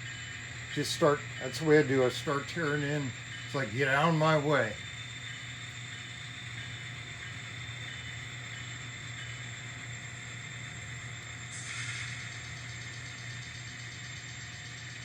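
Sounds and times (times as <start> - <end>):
model train motor whir: 0.0 - 15.0.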